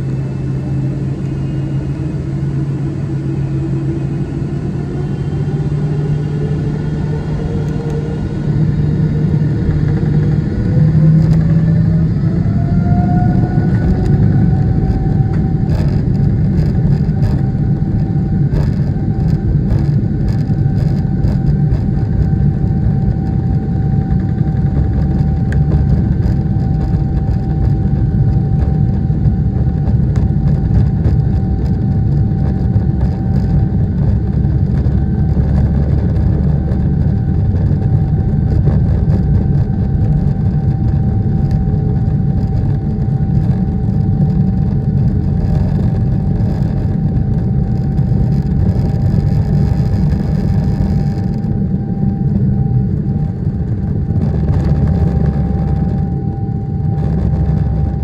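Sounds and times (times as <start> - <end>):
faint engine whine: 0.0 - 58.0
jet engines rumbling at take-off: 0.0 - 58.0.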